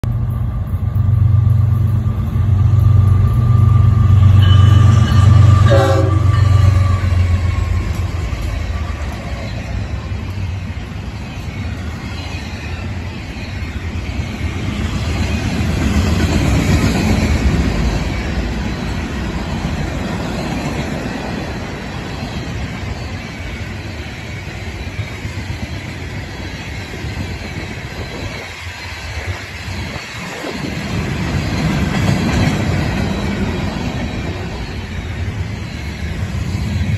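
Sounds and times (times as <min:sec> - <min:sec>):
diesel locomotives rumbling: 0:00.0 - 0:36.9
train wheels on rails: 0:00.0 - 0:36.9.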